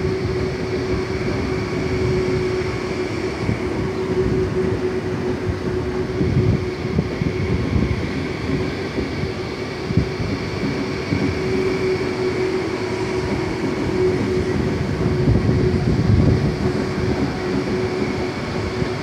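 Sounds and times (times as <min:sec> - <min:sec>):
steady train whine: 0:00.0 - 0:19.0
train wheels rumbling on rail: 0:00.0 - 0:19.0.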